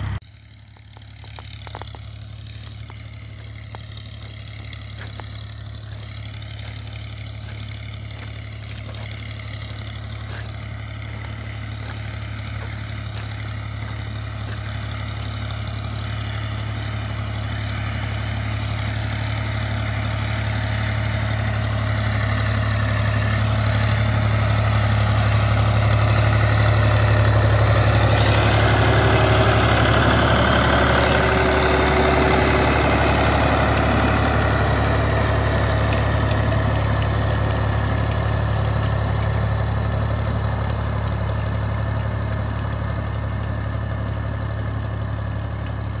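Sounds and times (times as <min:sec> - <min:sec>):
tractor diesel engine humming: 0:00.0 - 0:46.0.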